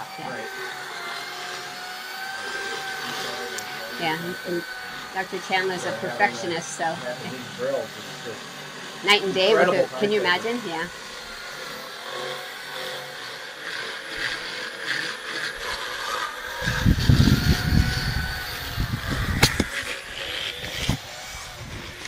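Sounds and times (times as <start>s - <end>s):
power dental float whining: 0.0s - 22.0s.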